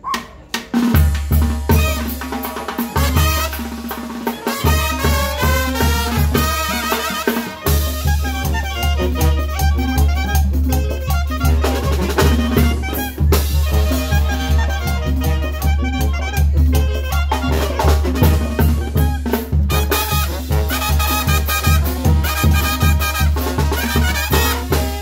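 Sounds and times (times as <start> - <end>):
drum kit steady beat: 0.0 - 25.0
brass band playing: 0.8 - 25.0
sousaphone bass line: 1.0 - 25.0.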